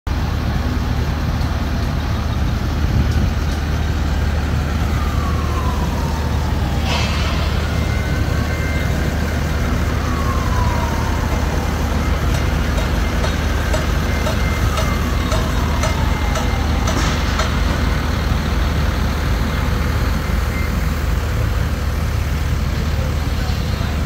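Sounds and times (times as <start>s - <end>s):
diesel engine rumble: 0.1s - 24.0s
faint siren wailing: 3.7s - 24.0s.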